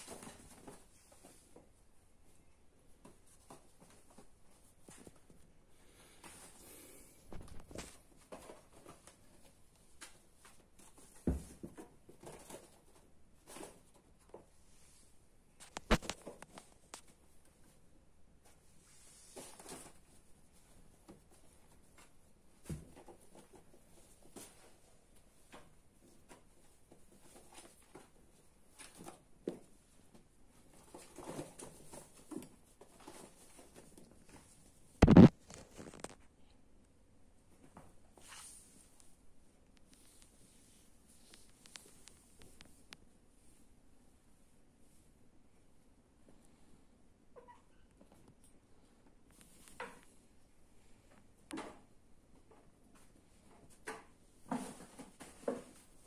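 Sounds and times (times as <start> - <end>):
kittens scuffling and rustling: 0.0 - 36.6, 37.4 - 45.6, 47.4 - 56.0.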